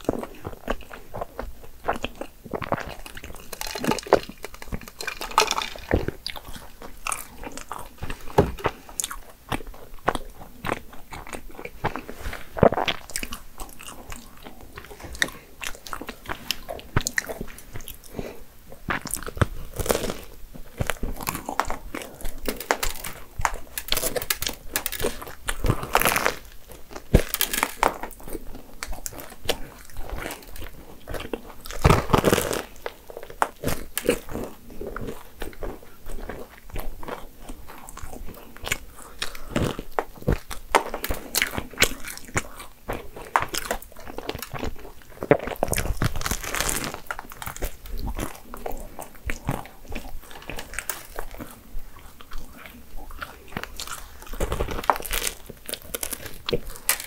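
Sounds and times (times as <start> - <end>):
chewing: 0.0 - 57.0
pastry crust crunching: 0.0 - 57.0.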